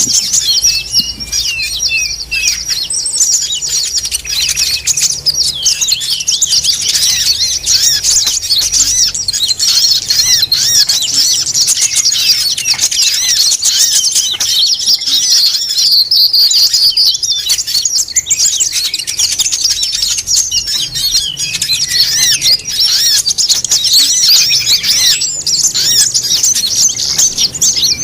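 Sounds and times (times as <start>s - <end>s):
songbirds chattering and trilling: 0.0s - 28.0s.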